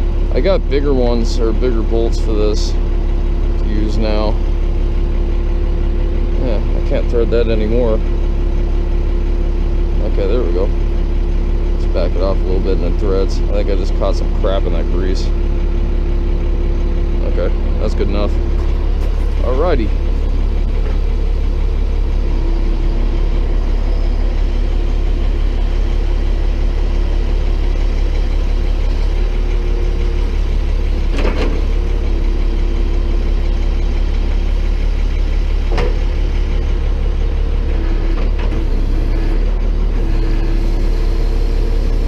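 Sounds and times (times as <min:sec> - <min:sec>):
tow truck engine idling: 0:00.0 - 0:42.0.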